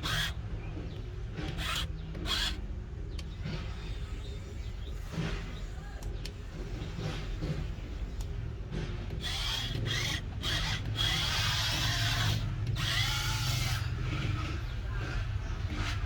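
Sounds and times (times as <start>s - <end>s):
construction machinery rumbling: 0.0s - 16.0s.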